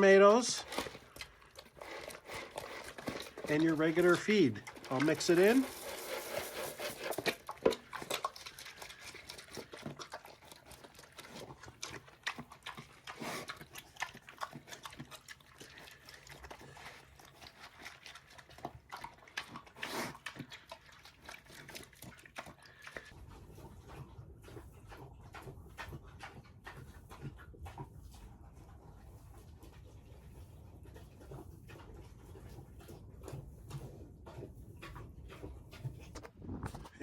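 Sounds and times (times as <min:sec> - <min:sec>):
pig chomping and slurping: 0:00.0 - 0:37.0.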